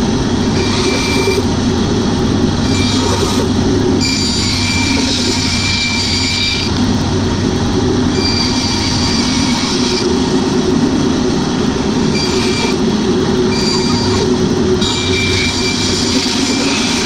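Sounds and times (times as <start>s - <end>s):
band saw blade whine: 0.0s - 17.0s
band saw hum: 0.0s - 17.0s.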